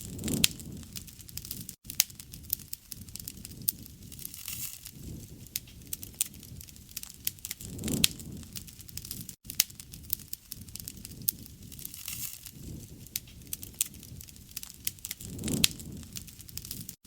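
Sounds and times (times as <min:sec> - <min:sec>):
low flame rustle: 0:00.0 - 0:17.0
wood crackling and popping: 0:00.0 - 0:17.0.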